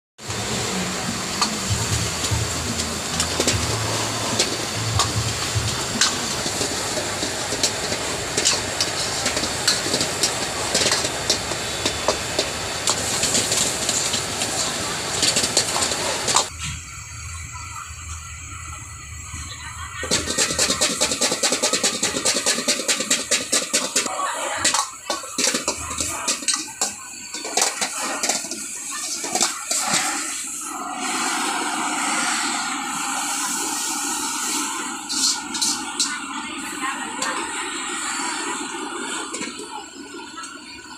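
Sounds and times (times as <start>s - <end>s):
food frying: 0.2s - 40.9s
gas burner hissing: 0.2s - 40.9s.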